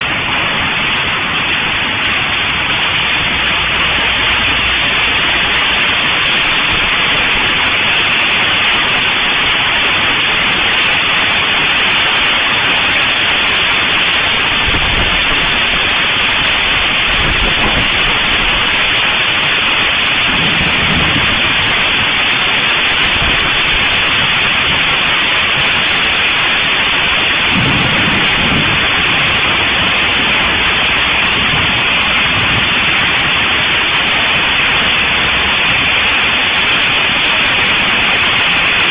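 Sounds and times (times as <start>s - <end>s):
heavy rain and hail: 0.0s - 38.9s
low thunder rumbles: 0.0s - 38.9s.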